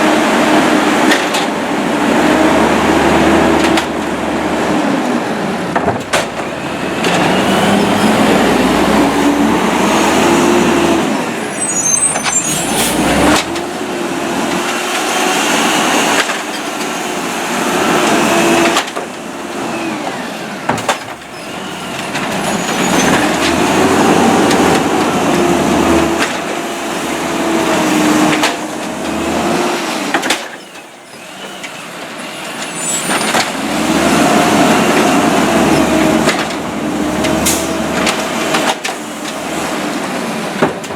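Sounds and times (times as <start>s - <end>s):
diesel engine revving: 0.0s - 30.5s, 31.2s - 40.9s.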